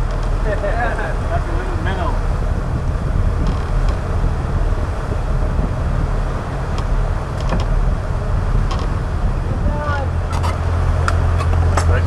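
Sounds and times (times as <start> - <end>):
boat engines rumbling: 0.0 - 12.0
rush of boat wake: 0.0 - 12.0.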